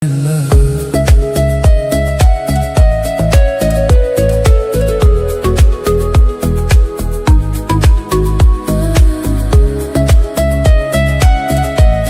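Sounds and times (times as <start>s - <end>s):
kick drum beat: 0.5s - 12.0s
sustained melody: 0.6s - 12.0s.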